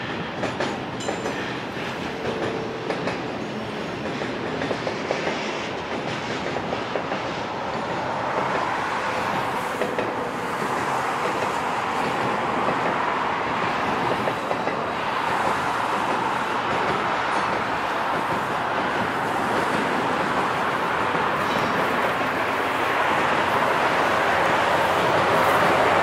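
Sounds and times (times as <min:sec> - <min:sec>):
freight train rolling over bridge: 0:00.0 - 0:26.0.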